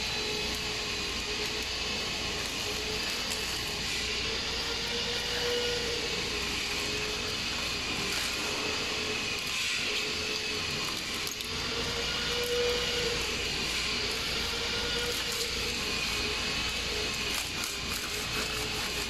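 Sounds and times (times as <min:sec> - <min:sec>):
machinery hum and hiss: 0:00.0 - 0:19.0.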